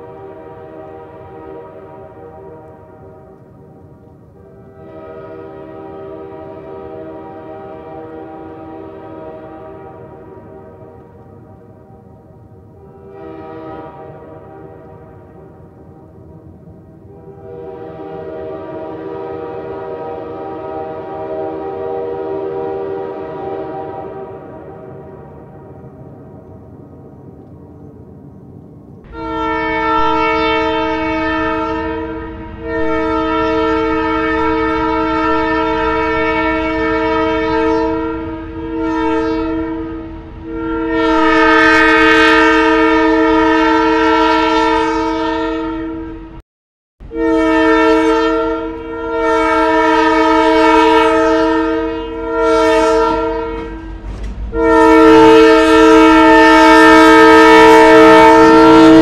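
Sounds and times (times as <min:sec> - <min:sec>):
locomotive air horn blasts: 0:00.0 - 0:26.1, 0:29.1 - 0:46.4, 0:47.0 - 0:59.0
low rumble of train: 0:00.0 - 0:46.4, 0:47.0 - 0:59.0.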